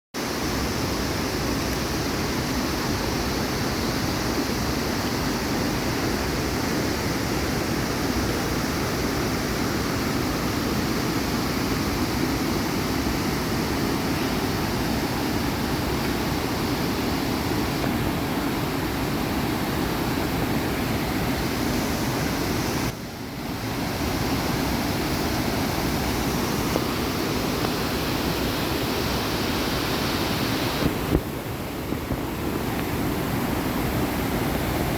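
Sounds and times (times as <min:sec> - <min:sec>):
waterfall rushing over rocks: 0:00.2 - 0:34.9.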